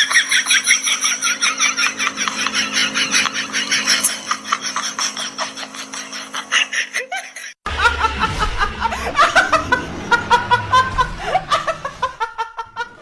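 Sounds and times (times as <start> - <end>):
woman laughing hard: 0.0 - 13.0.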